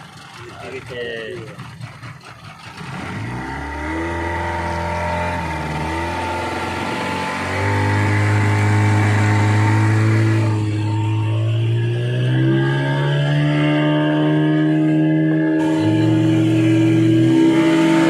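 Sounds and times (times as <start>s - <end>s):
boat engine throttling up: 0.0s - 18.0s.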